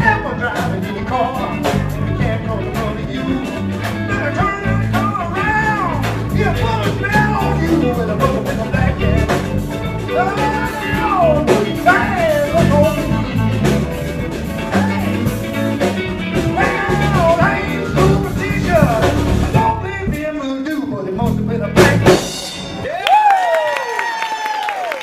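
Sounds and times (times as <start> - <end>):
lead guitar bending notes: 0.0 - 20.4
blues band playing: 0.0 - 23.6.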